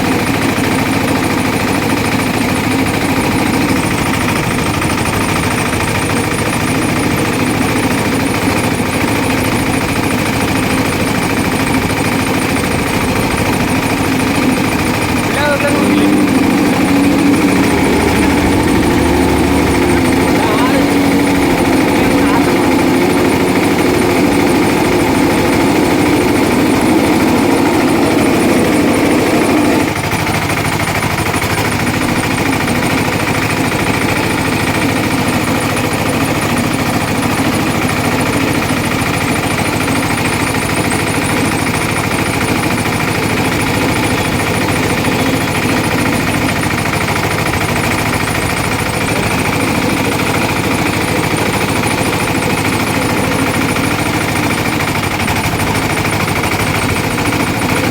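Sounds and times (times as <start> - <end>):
juice crusher machine rattling: 0.0 - 57.9.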